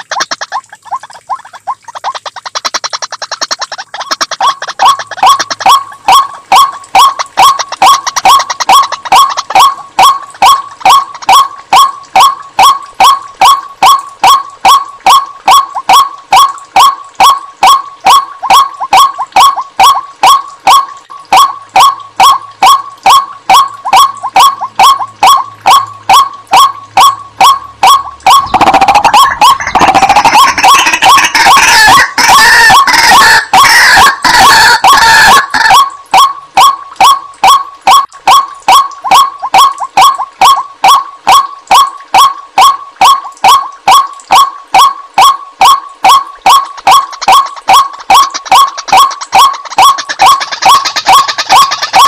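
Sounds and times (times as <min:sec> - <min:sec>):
waterhen harsh calls: 0:00.0 - 0:52.0.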